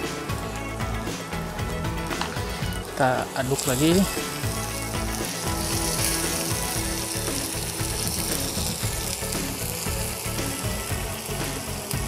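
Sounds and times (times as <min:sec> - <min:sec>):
background music: 0:00.0 - 0:12.0
paste sizzling in a frying pan: 0:00.0 - 0:12.0.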